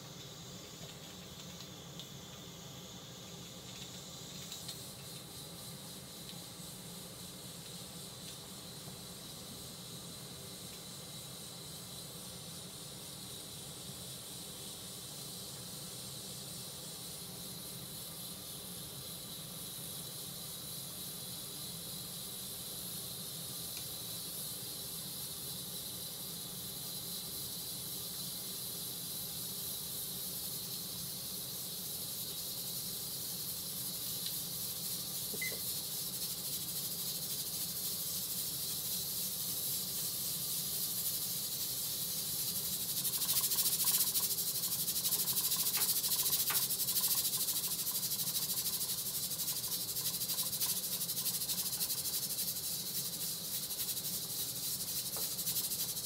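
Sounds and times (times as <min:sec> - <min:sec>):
pressure cooker hissing steam: 0:00.0 - 0:56.0.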